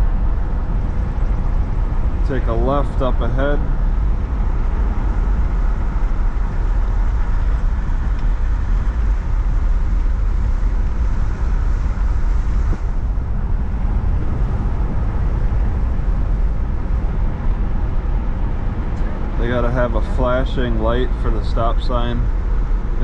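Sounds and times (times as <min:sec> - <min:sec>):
car tyres and engine rumble: 0:00.0 - 0:23.0.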